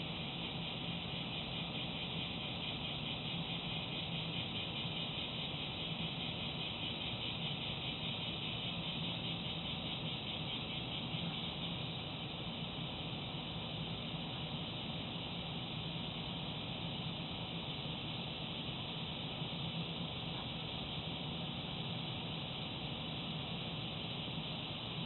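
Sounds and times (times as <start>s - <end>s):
high hiss: 0.0s - 25.0s
low even hum: 0.0s - 25.0s.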